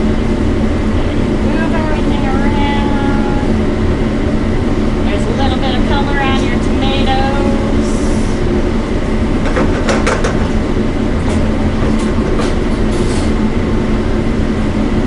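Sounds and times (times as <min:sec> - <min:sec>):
loud kitchen rumble: 0:00.0 - 0:15.0.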